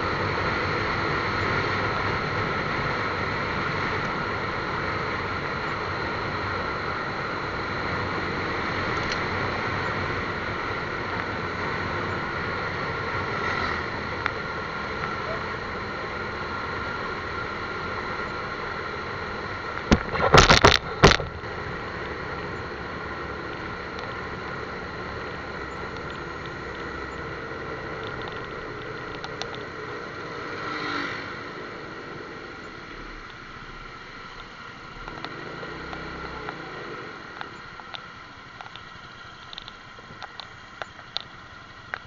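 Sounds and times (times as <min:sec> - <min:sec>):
motor vehicle running: 0:00.0 - 0:42.0.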